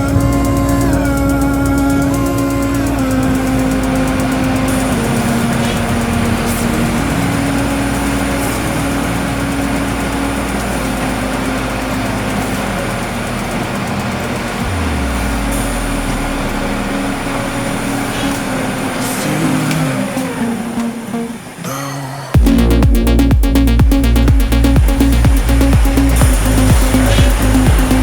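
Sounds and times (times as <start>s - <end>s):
low rumble: 0.0s - 19.5s, 22.4s - 28.0s
engine-like drone with pitched tones: 0.0s - 28.0s.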